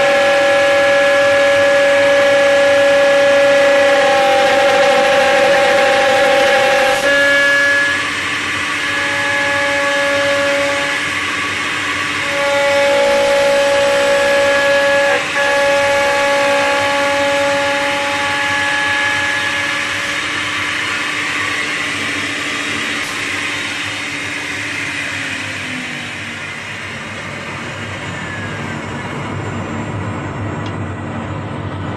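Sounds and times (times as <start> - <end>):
machine spindle whine: 0.0 - 31.9.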